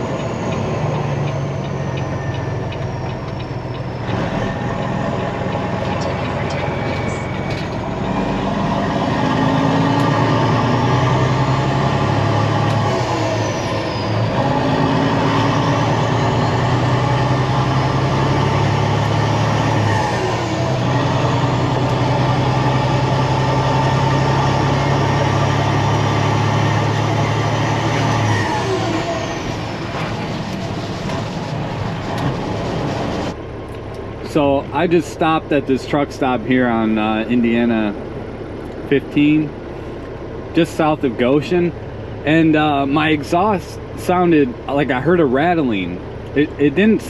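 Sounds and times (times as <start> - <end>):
truck diesel engine running: 0.0 - 47.0.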